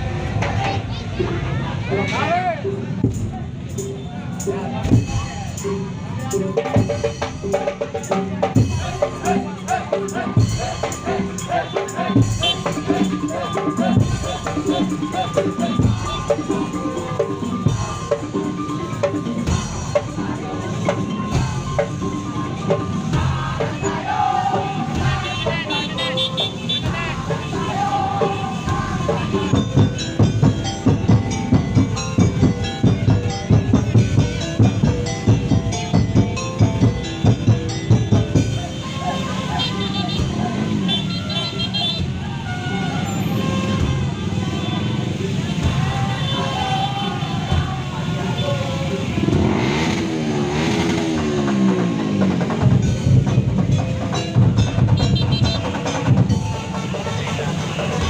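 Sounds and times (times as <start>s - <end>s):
drums and wood-block rhythm: 0.0s - 58.0s
percussion ensemble music: 0.0s - 58.0s.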